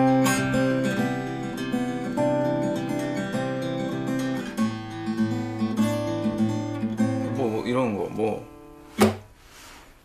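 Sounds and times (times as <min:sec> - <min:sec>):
acoustic guitar strumming: 0:00.0 - 0:09.4.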